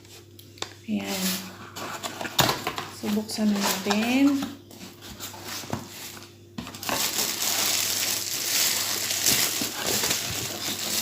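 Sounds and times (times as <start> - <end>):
packaging rustling and crinkling: 1.0 - 11.0.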